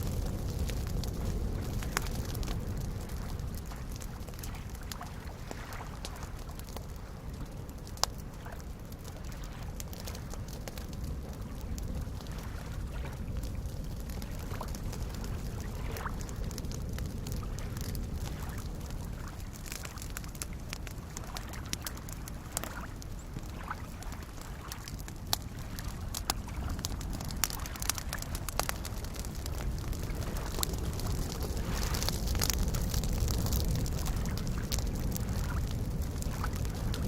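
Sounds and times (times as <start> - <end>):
campfire crackling and popping: 0.0 - 37.0
soft lake waves: 0.0 - 37.0.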